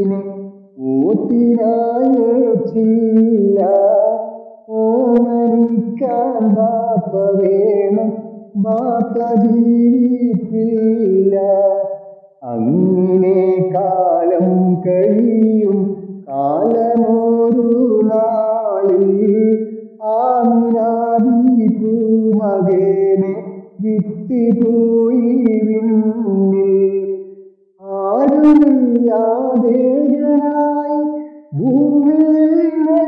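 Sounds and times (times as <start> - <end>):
person singing: 0.0 - 33.0.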